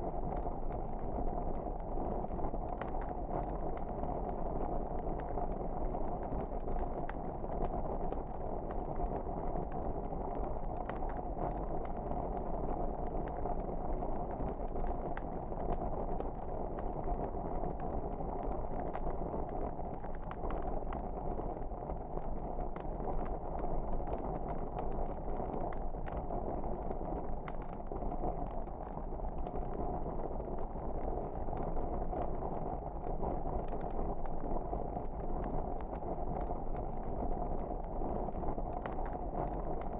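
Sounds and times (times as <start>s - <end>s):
wood fire crackling: 0.2s - 39.9s.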